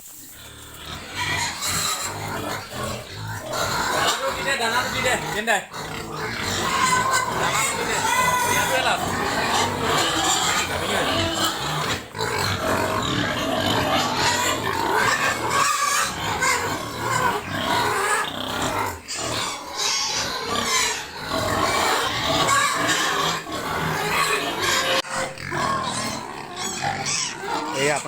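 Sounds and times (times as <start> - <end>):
pigs squealing and grunting: 0.2 - 28.0.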